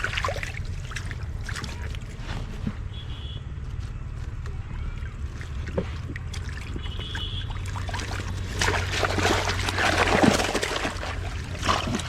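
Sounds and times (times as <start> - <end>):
water splashing and trickling: 0.0 - 2.9, 4.2 - 12.0.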